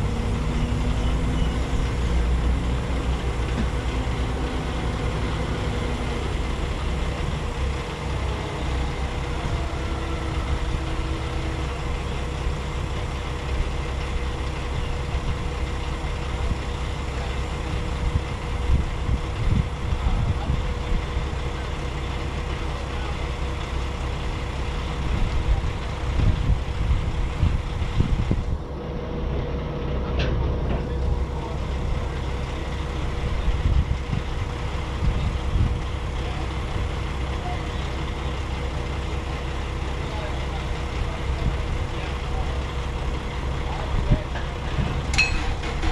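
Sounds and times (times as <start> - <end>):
diesel truck engine idling: 0.0 - 45.9
low rumbles: 0.0 - 45.9.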